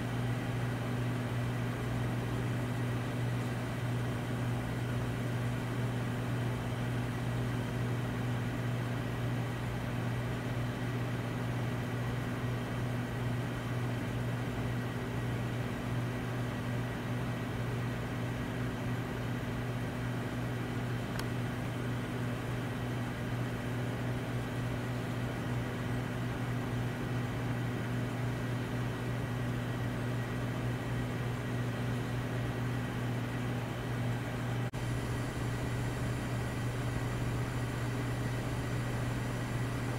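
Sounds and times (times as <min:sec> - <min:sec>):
low mechanical hum with hiss: 0:00.0 - 0:39.9.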